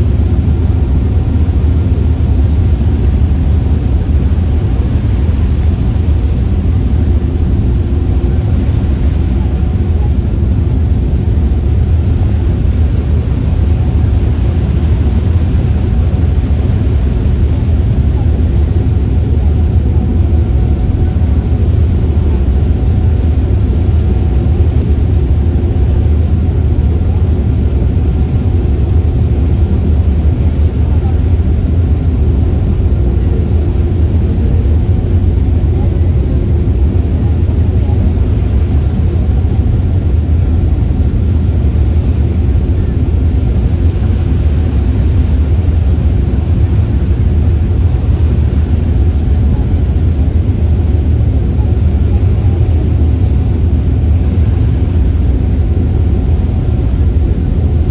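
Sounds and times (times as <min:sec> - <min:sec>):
faint even hum: 0:00.0 - 0:57.9
ferry engine rumbling: 0:00.0 - 0:57.9.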